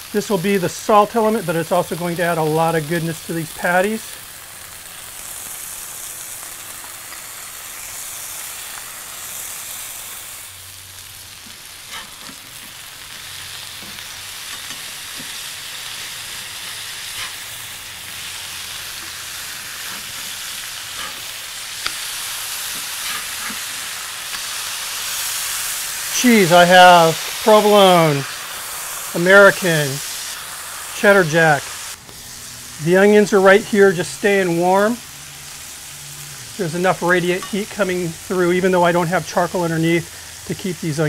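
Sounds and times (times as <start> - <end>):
beef patties sizzling on a griddle: 0.0 - 41.0.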